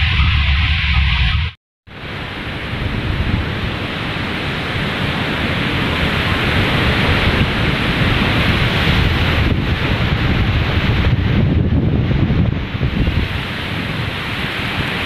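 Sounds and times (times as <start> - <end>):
sea surf: 1.9 - 15.0
wind buffeting microphone: 2.0 - 15.0.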